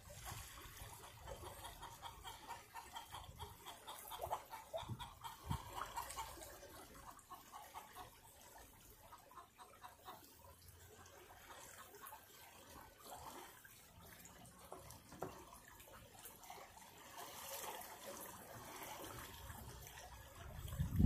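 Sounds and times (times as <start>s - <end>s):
flowing floodwater: 0.0s - 21.0s.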